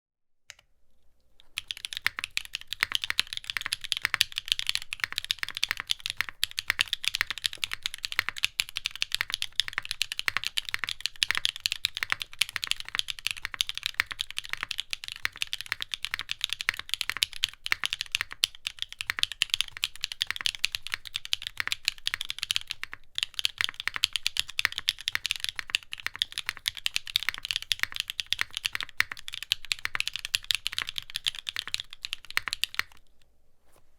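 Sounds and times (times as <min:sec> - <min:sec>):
mechanical keyboard typing clacks: 0:01.6 - 0:33.0.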